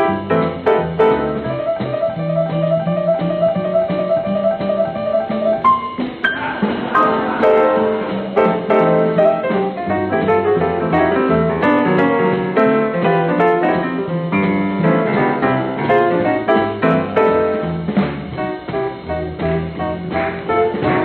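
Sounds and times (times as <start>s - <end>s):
solo jazz piano: 0.0s - 21.0s.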